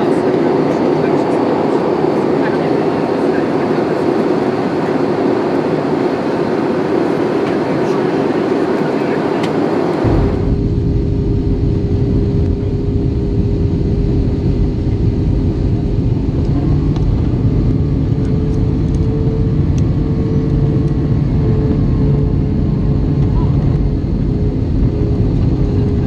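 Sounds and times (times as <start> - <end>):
airplane cabin engine hum: 0.0 - 26.0.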